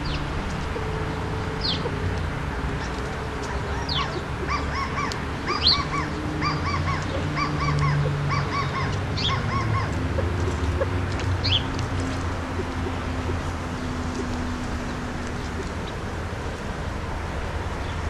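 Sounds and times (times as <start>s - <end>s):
birds calling nasal notes: 0.0s - 16.8s.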